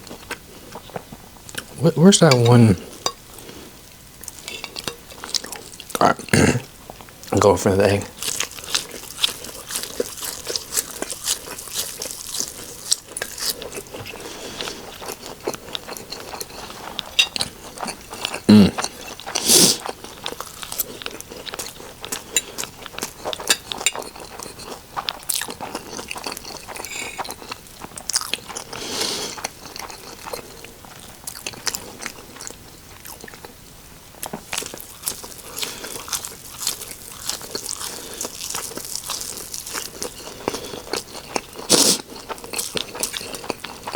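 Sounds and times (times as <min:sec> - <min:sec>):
close-up chewing and crunching: 0:00.0 - 0:43.9.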